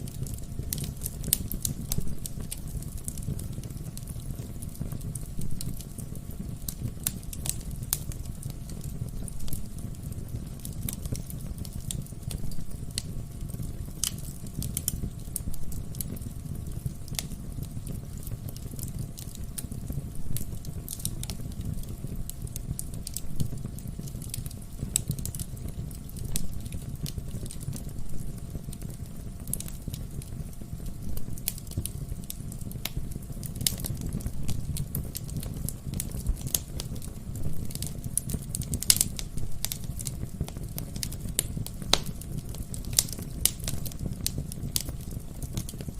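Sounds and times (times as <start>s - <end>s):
low rumble of flame: 0.0s - 45.9s
wood fire pops and snaps: 0.0s - 45.9s.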